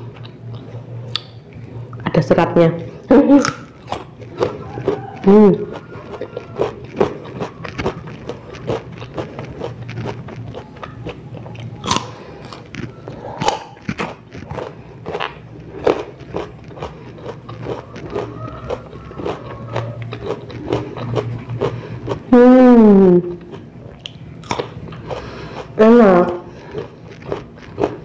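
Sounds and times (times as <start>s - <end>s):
crunching and chewing fruit: 0.0s - 2.1s, 2.7s - 22.3s, 23.2s - 28.0s.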